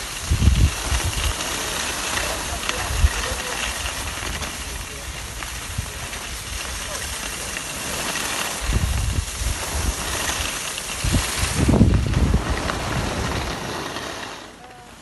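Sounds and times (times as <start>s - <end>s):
wind buffeting microphone: 0.0s - 14.6s
skis scraping over snow: 0.0s - 15.0s.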